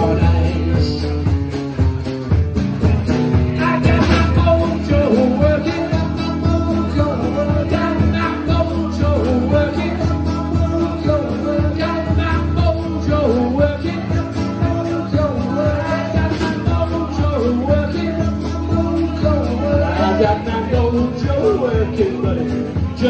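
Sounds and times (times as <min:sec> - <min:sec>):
man singing: 0:00.0 - 0:01.5, 0:03.4 - 0:23.0
acoustic guitar: 0:00.0 - 0:23.0
drum kit: 0:00.0 - 0:23.0.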